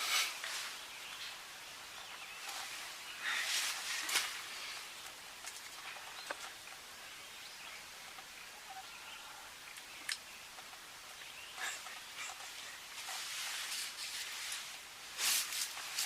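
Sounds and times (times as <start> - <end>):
faint bird calls: 0.0 - 14.4.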